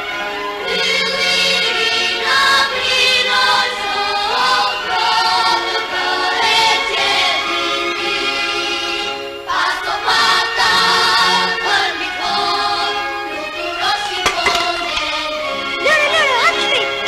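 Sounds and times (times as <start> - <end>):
music: 0.0 - 17.0
choir singing: 0.6 - 16.5.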